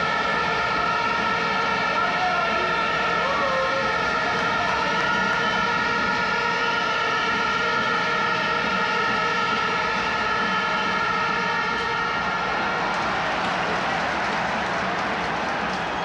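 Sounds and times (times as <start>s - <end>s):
crowd blowing held tones: 0.0s - 16.0s
crowd roar: 0.0s - 16.0s.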